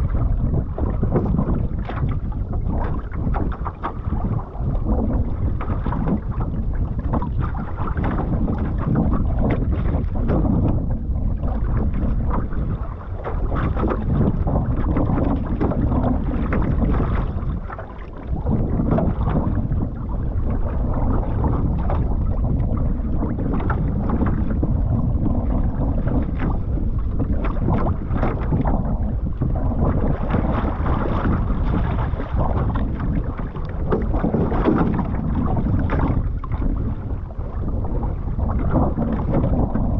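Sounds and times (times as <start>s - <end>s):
continuous low rumble: 0.0s - 39.9s
water splashing against hull: 0.0s - 39.9s
wind buffeting microphone: 0.0s - 39.9s.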